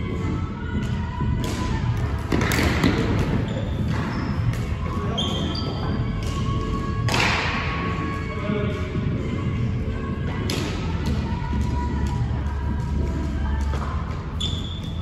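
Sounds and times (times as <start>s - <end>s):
players' voices: 0.0s - 14.0s.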